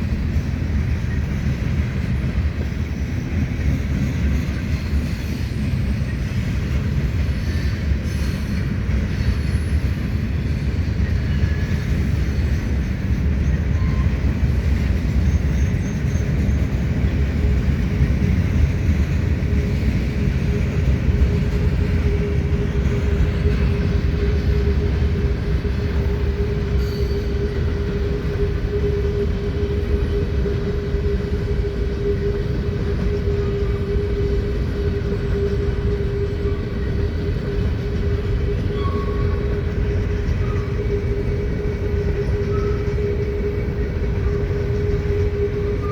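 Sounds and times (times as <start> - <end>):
freight train wheels rumbling: 0.0 - 45.9
wheel squeal: 2.3 - 16.8, 20.5 - 45.9.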